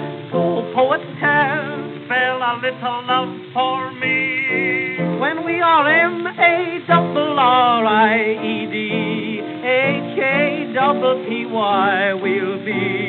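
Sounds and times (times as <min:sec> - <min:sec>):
men singing a duet: 0:00.4 - 0:13.0.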